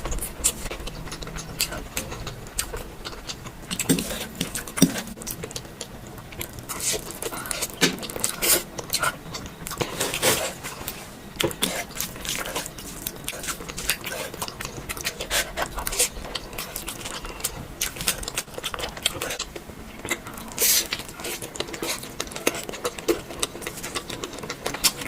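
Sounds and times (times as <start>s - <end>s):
chewing and mouth noises: 0.0s - 25.0s.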